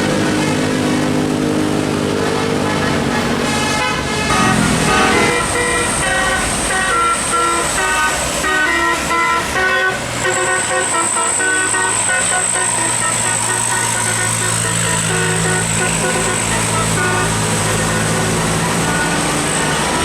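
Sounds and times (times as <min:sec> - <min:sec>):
musical air horn: 0:00.0 - 0:20.0.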